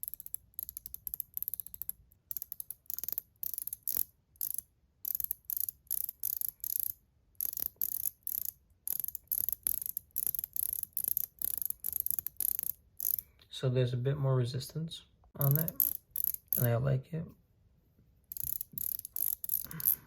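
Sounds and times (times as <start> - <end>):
ratchet ring clicking: 0.0 - 13.3, 15.4 - 16.7, 18.3 - 20.0.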